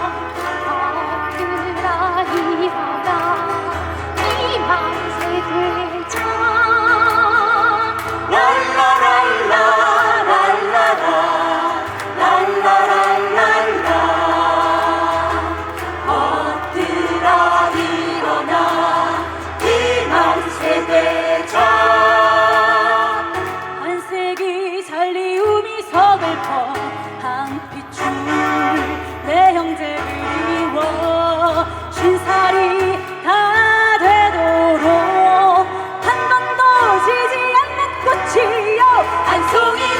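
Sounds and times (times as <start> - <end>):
guitar accompaniment: 0.0 - 39.9
keyboard accompaniment: 0.0 - 39.9
mixed group singing in chorus: 3.0 - 24.4, 26.2 - 39.9.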